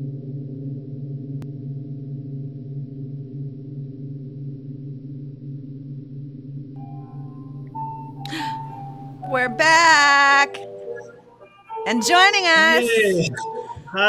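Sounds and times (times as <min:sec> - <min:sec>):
low droning gong-like music: 0:00.0 - 0:14.0.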